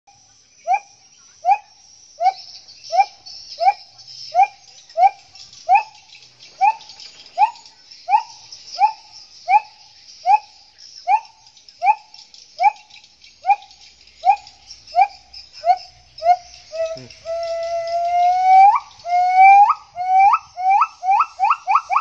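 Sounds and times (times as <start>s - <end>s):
high insect drone: 0.1s - 22.0s
gibbon hooting call: 0.6s - 6.0s, 6.6s - 10.5s, 11.1s - 12.8s, 13.4s - 22.0s.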